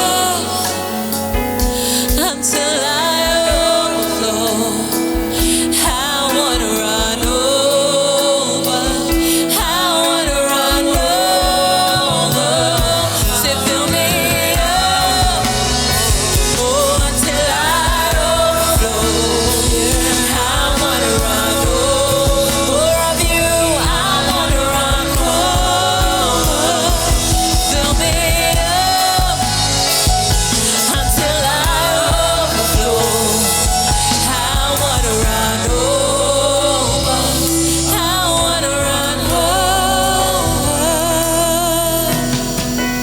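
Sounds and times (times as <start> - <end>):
gospel song singing: 0.0 - 43.0
instrumental backing with beat: 3.2 - 39.4.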